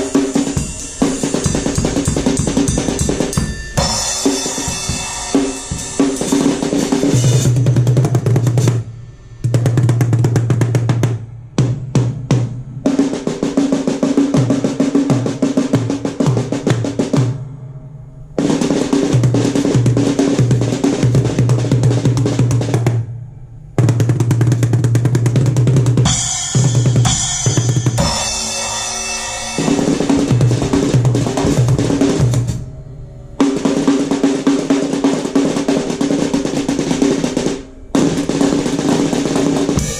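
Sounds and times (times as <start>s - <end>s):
drum rolls and fills: 0.0s - 17.6s, 18.2s - 23.1s, 23.7s - 39.9s.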